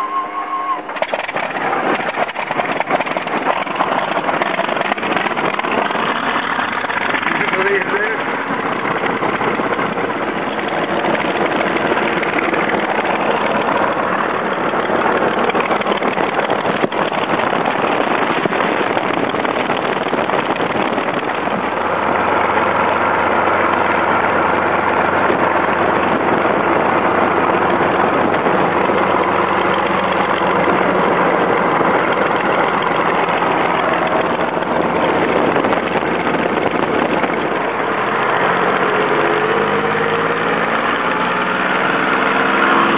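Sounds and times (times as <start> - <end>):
aircraft piston engine running: 0.0 - 42.9.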